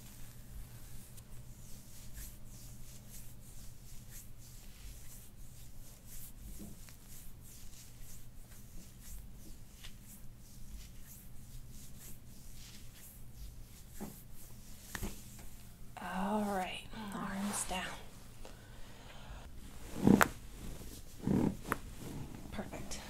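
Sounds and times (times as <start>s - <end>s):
hands rubbing on skin and fabric: 0.0s - 18.5s, 19.5s - 23.0s
faint steady low hum: 0.0s - 23.0s.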